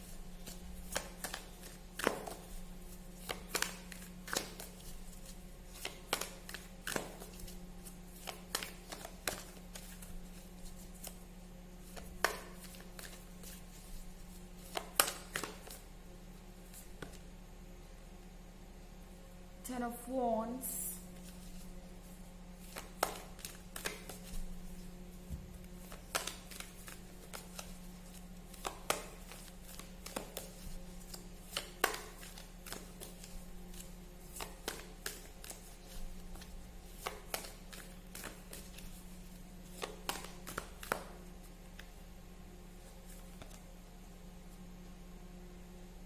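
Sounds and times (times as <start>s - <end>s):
cards tapping and flicking: 0.0s - 11.2s, 11.8s - 15.9s, 16.6s - 17.3s, 21.2s - 42.0s, 42.8s - 43.6s
steady low hum: 0.0s - 46.0s.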